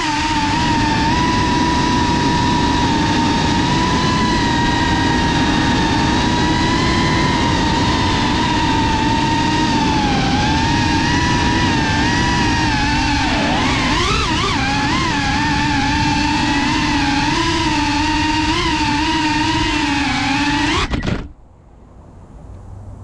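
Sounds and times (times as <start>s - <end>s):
drone propellers whining: 0.0s - 21.4s.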